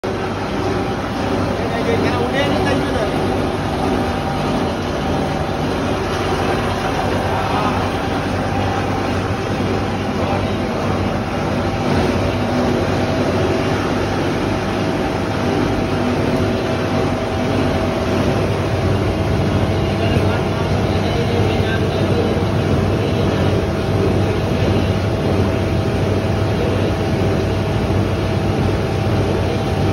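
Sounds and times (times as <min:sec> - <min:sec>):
granulator machine running: 0:00.0 - 0:29.9.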